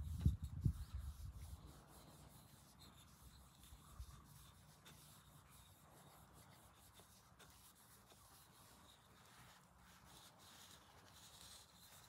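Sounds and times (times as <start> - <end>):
cloth rubbing on wood: 0.0 - 12.0.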